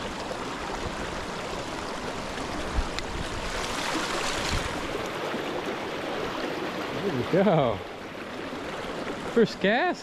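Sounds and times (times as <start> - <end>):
stream splashing over stones: 0.0 - 10.0.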